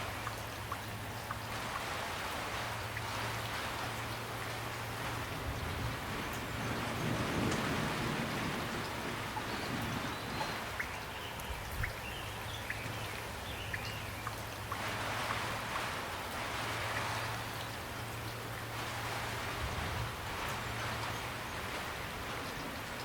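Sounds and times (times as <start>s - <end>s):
rain falling: 0.0s - 23.0s
raindrops ticking close by: 0.0s - 23.0s.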